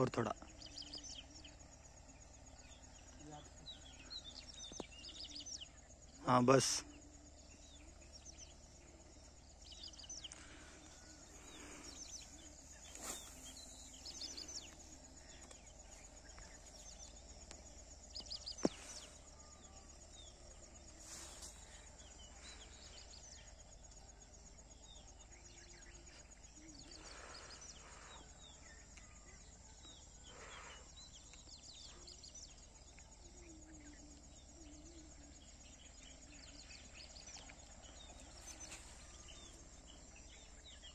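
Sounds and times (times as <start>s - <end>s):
distant bird chirps: 0.0s - 40.9s.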